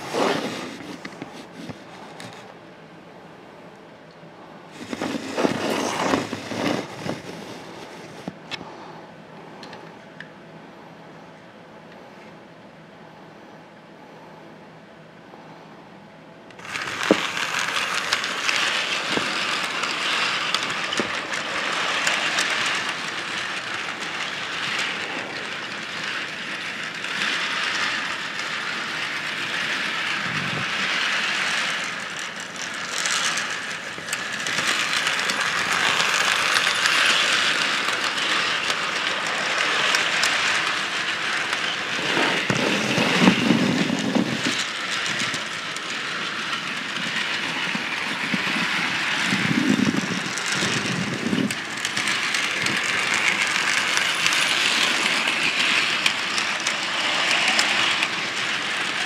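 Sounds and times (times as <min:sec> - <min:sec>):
model train running on track: 0:00.0 - 0:02.4, 0:04.7 - 0:08.6, 0:16.5 - 0:59.0.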